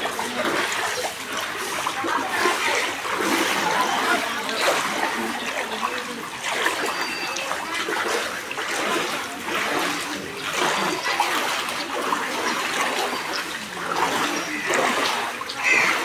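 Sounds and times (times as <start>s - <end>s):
feet wading through water: 0.0s - 16.0s.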